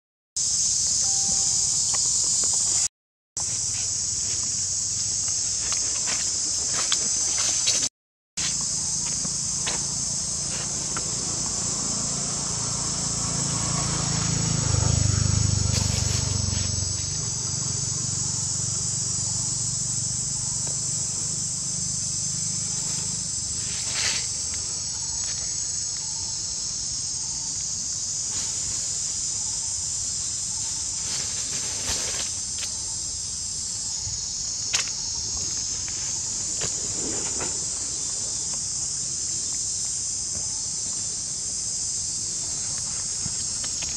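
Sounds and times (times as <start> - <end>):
high-pitched insect chorus: 0.4 - 43.9.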